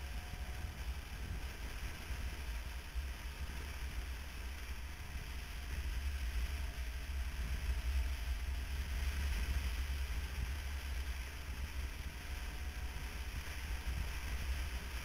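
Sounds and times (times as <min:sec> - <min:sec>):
motorcycle running: 0:00.0 - 0:15.0
wind rushing over microphone: 0:00.0 - 0:15.0.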